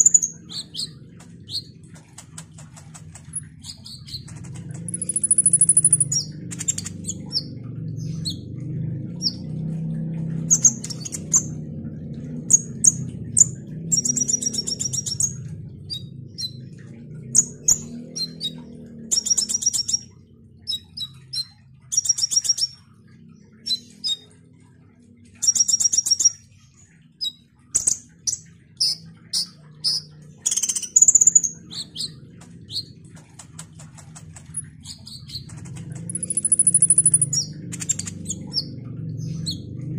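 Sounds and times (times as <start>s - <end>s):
bird chirping and trilling: 0.0s - 24.3s, 25.4s - 39.9s
low steady hum: 0.0s - 39.9s.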